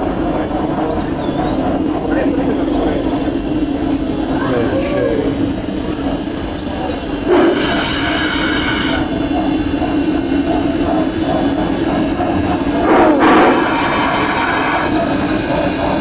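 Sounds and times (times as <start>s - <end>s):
model steam locomotive running: 0.0s - 16.0s.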